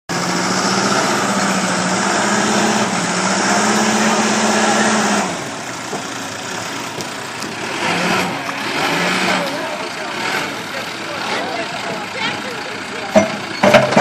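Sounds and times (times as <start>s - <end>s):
engine running under load: 0.1s - 14.0s.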